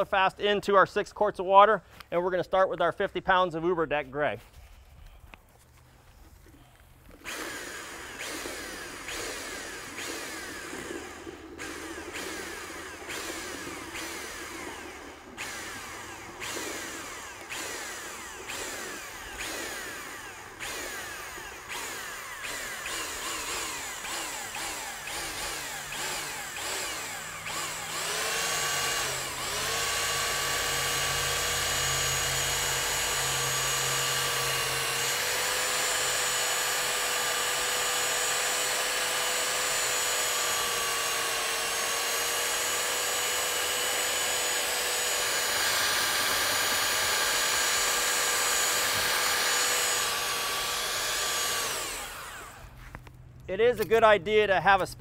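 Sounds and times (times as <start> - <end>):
electric paddle mixer whining: 7.1 - 52.8.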